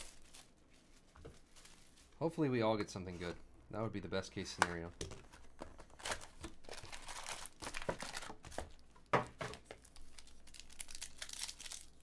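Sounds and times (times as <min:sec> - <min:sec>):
foil packs crinkling: 0:00.0 - 0:03.3, 0:04.4 - 0:08.8, 0:09.4 - 0:12.0.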